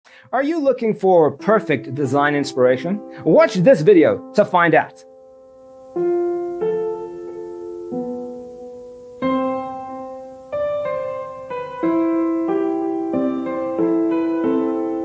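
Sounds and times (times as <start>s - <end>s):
piano chords: 0.3s - 15.0s.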